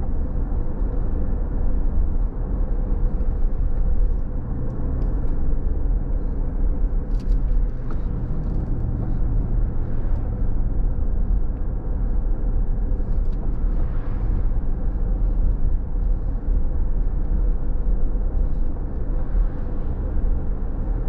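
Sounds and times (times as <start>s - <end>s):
car driving on wet road: 0.0s - 21.0s.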